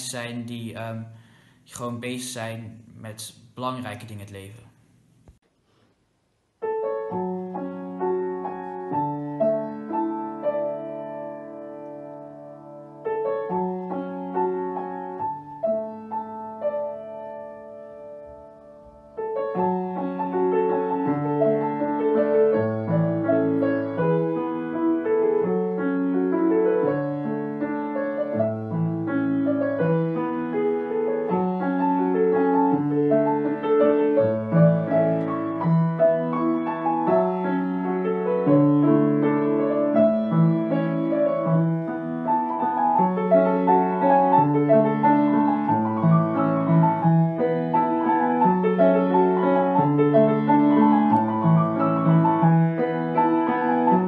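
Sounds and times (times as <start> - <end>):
grand piano piece: 6.3 - 54.0.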